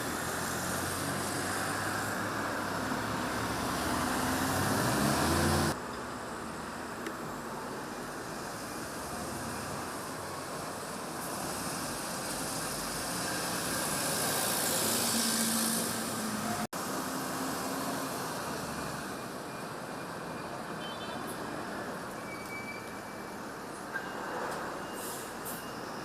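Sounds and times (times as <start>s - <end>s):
running vehicles: 0.0s - 26.0s.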